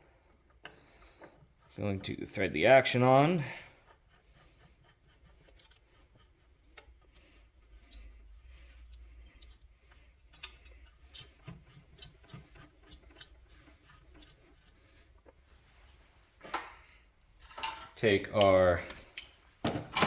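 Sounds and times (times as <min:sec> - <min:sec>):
metal threads rubbing: 0:00.1 - 0:19.6.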